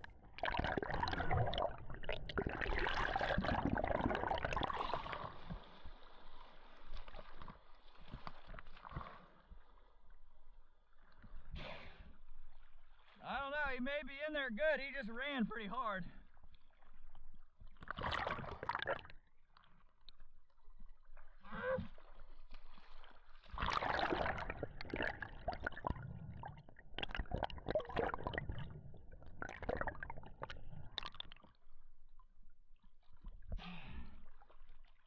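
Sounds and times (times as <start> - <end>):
water sloshing and splashing: 0.0 - 11.5, 16.2 - 35.0.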